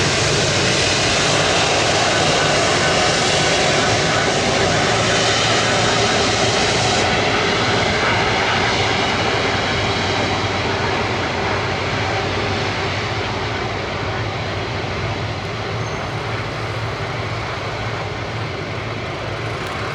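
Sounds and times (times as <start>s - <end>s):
jet engine rushing rumble: 0.0s - 19.9s.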